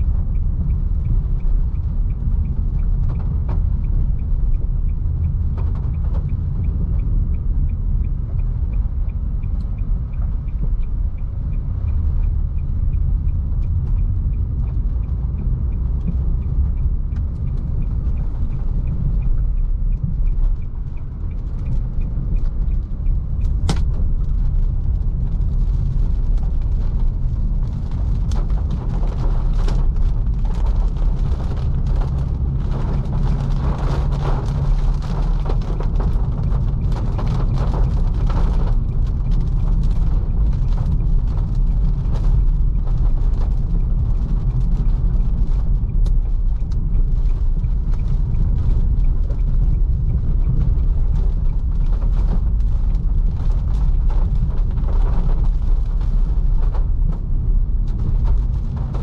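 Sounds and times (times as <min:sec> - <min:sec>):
rain hissing and tapping on car: 0:00.0 - 0:59.0
road and tyre rumble: 0:00.0 - 0:59.0.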